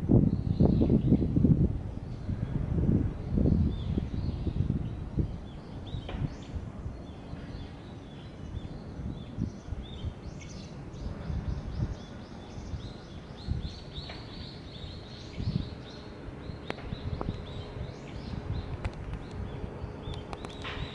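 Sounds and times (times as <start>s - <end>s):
wind rumble on microphone: 0.0s - 20.9s
small birds chirping: 3.3s - 20.9s.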